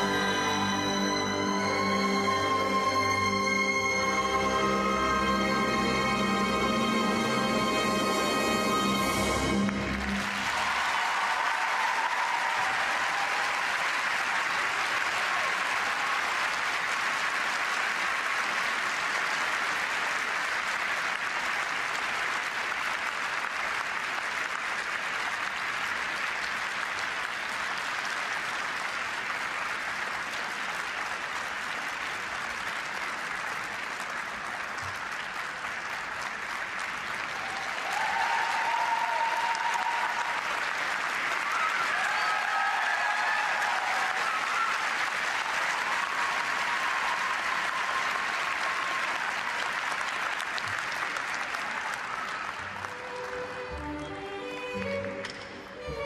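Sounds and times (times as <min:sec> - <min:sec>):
audience applauding: 0:00.0 - 0:56.0.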